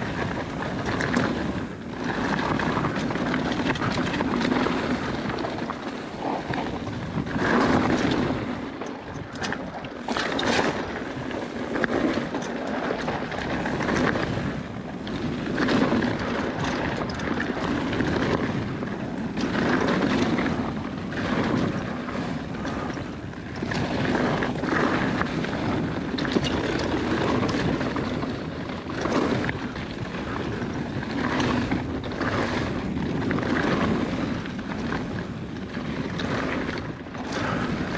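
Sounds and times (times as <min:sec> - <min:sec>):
wind rushing over microphone: 0:00.0 - 0:37.9.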